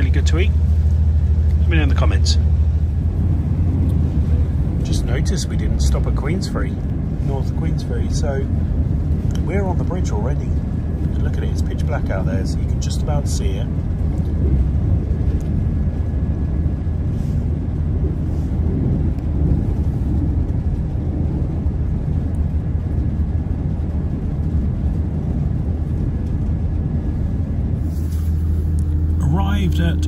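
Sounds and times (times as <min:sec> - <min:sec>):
train rumbling from inside: 0:00.0 - 0:30.0.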